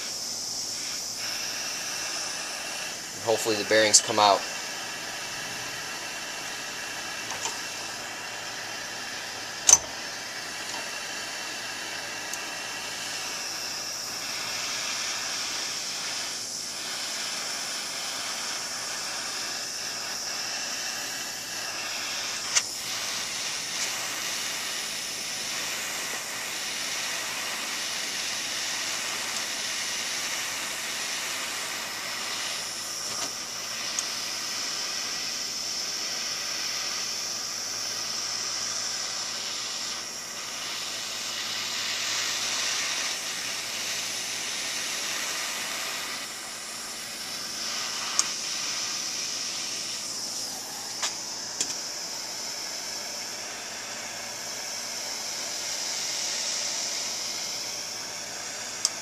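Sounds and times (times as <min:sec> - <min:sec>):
gas torch hissing: 0:00.0 - 0:59.0.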